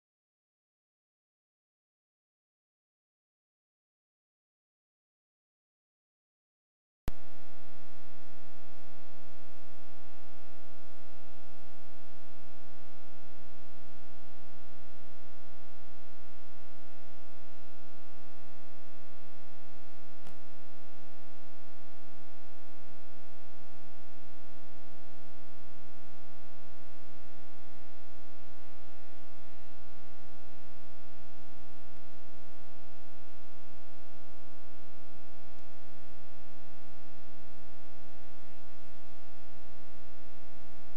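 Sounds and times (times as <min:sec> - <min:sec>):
electrical mains hum: 0:07.1 - 0:40.9.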